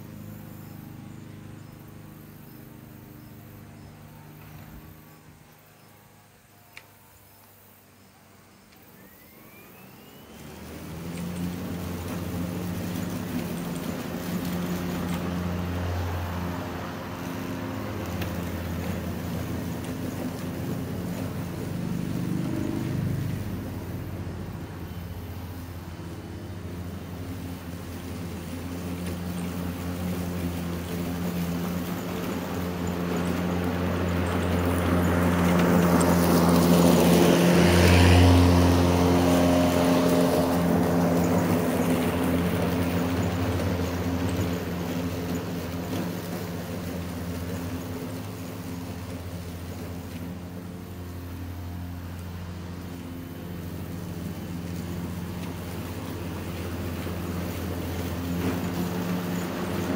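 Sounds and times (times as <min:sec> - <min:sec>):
electric lawn mower humming: 0:00.0 - 0:59.9
hiss of cut grass: 0:00.0 - 0:59.9.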